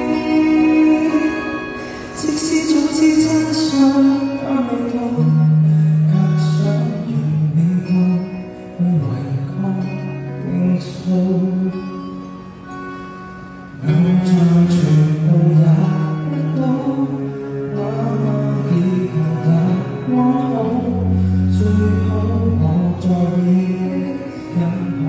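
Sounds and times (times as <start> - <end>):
man singing a ballad: 0.0 - 12.3, 13.8 - 25.0
instrumental accompaniment: 0.0 - 25.0.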